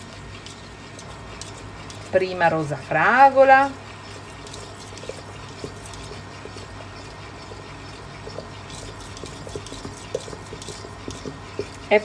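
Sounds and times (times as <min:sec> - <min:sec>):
liquid sloshing: 0:00.0 - 0:12.0
metal spoon stirring in a pot: 0:00.0 - 0:12.0
steady low hum: 0:00.0 - 0:12.0.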